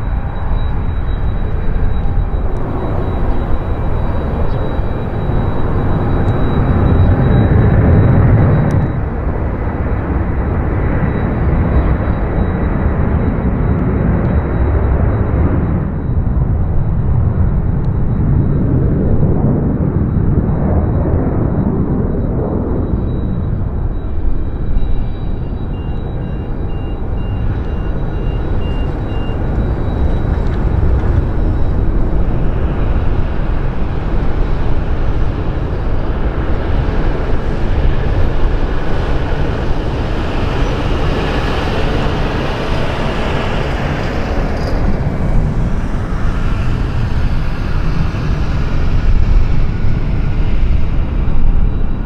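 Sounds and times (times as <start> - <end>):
jet engines rumbling and whining: 0.0 - 52.0.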